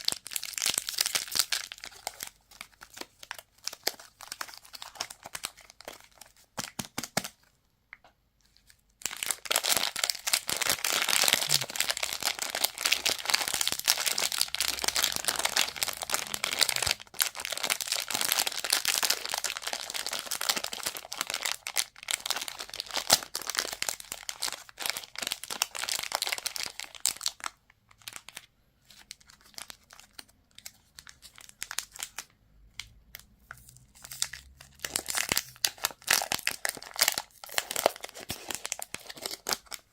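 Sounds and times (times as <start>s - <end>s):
candy wrappers crinkling: 0.0s - 7.4s, 8.5s - 39.9s.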